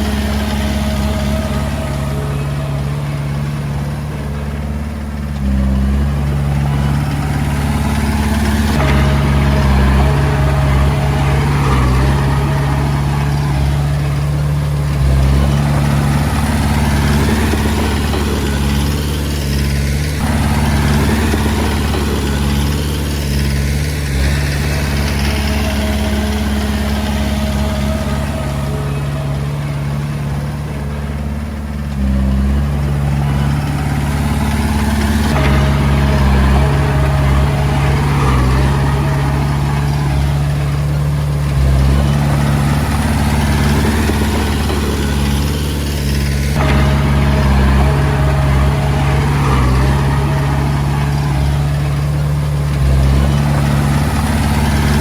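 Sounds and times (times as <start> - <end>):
bulldozer diesel engine running: 0.0 - 55.0
rough mechanical clatter: 0.0 - 55.0.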